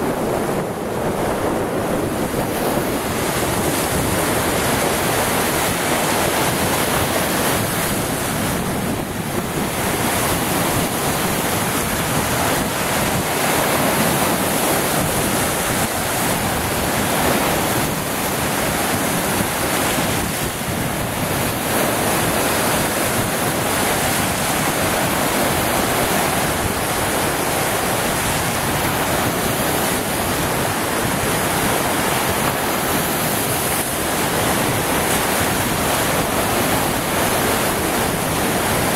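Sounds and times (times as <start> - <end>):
waves splashing on rocks: 0.0 - 38.9
wind on microphone: 0.0 - 38.9.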